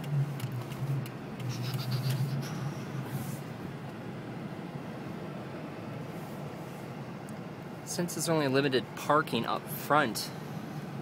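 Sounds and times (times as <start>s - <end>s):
car engine and tyre drone: 0.0s - 11.0s.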